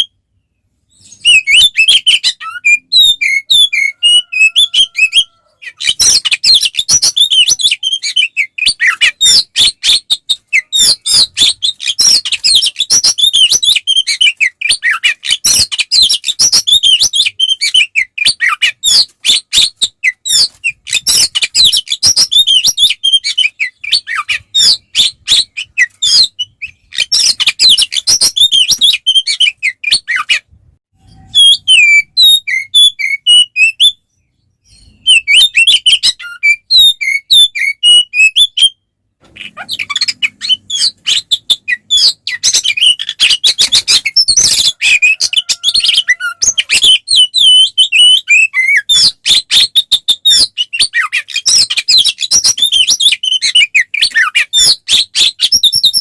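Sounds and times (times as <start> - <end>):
bird singing whistles and trills: 0.0 - 30.4, 31.0 - 38.8, 39.4 - 56.0.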